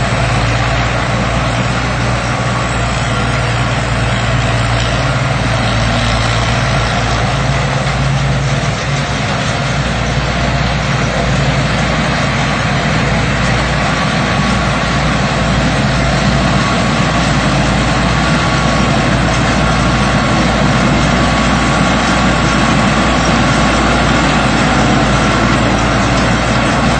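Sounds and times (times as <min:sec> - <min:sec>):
combine harvester running: 0:00.0 - 0:26.9.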